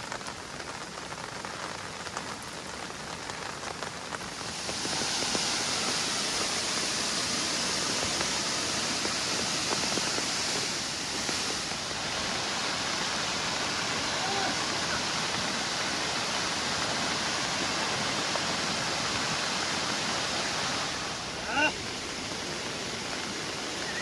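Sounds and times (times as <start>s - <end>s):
running water splashing: 2.3s - 24.0s.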